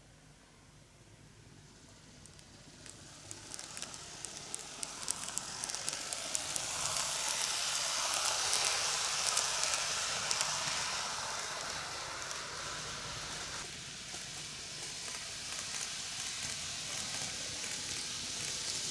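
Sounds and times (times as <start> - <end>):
model train running: 1.6 - 18.9.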